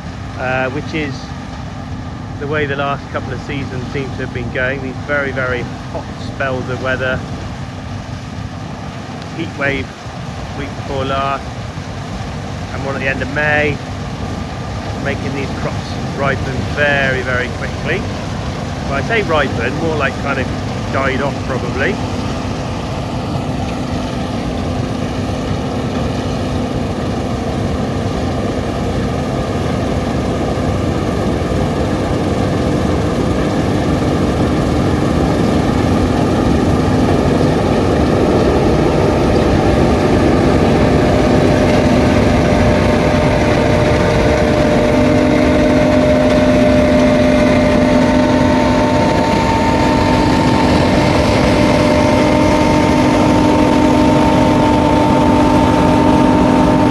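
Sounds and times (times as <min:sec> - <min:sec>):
combine harvester droning: 0:00.0 - 0:56.9
high whines: 0:00.0 - 0:56.9.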